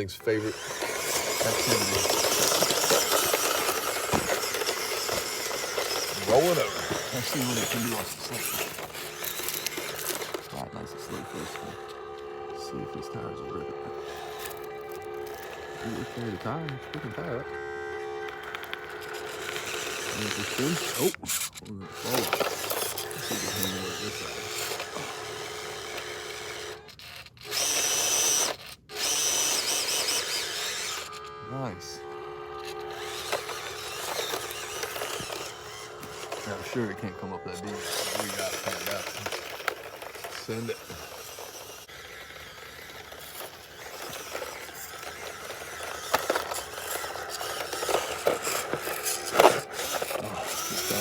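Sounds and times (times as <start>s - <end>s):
electric motor whining: 0.0s - 51.0s
toy truck scraping and grinding: 0.0s - 51.0s.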